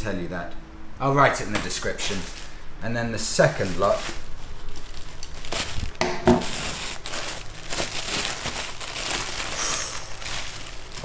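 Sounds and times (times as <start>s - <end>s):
paper crinkling: 1.5s - 2.6s, 3.2s - 11.0s.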